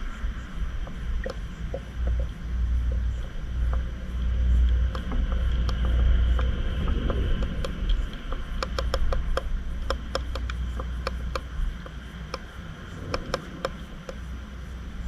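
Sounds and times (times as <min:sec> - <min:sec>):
steady low rumble: 0:00.0 - 0:15.0
sharp clicks and ticks: 0:00.7 - 0:14.7.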